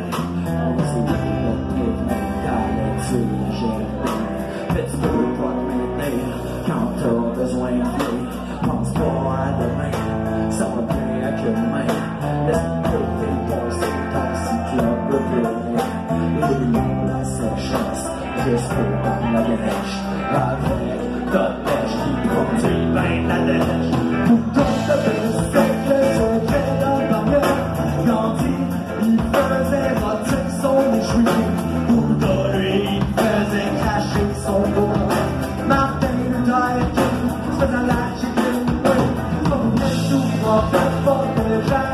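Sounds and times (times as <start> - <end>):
rock band playing: 0.0 - 41.9.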